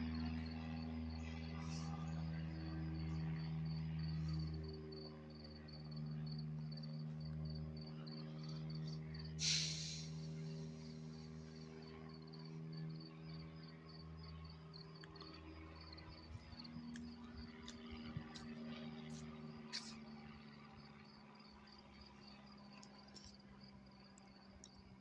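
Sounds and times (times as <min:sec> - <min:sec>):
low hum: 0:00.0 - 0:25.0
crickets chirping: 0:00.1 - 0:25.0.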